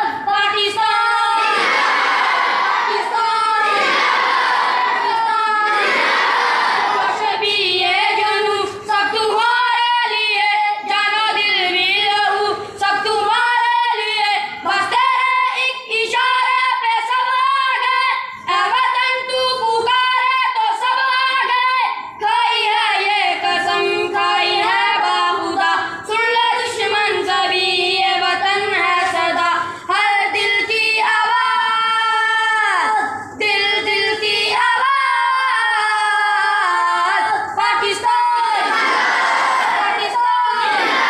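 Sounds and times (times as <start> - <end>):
boys singing together: 0.0 - 41.0.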